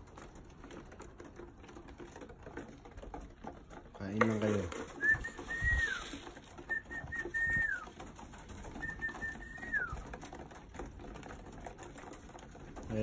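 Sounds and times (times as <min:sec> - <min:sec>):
pigeons pecking on wood: 0:00.0 - 0:13.0.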